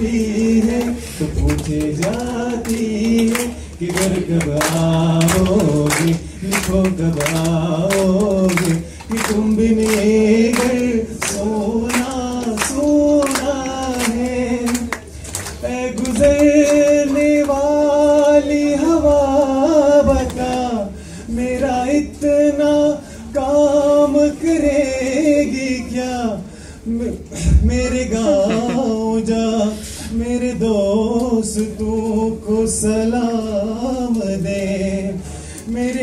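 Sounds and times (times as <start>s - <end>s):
man singing over loudspeaker: 0.0s - 36.0s.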